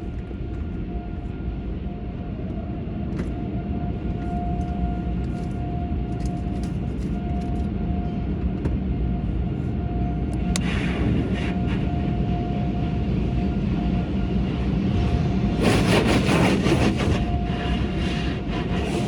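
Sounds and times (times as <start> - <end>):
low machinery rumble: 0.0 - 19.0.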